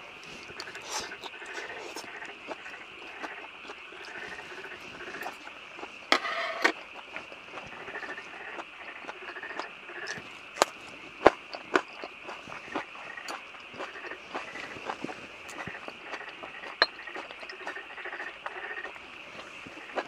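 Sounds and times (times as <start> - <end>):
night insects chorus: 0.0 - 20.0.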